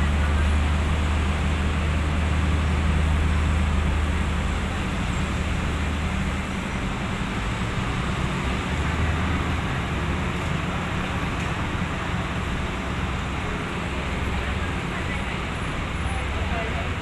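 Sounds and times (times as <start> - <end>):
diesel railcar rumbling: 0.0 - 17.0.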